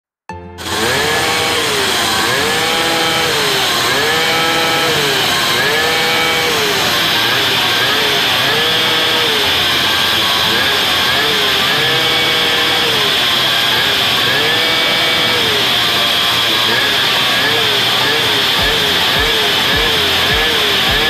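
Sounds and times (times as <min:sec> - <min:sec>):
two-stroke engine revving: 0:00.6 - 0:21.0.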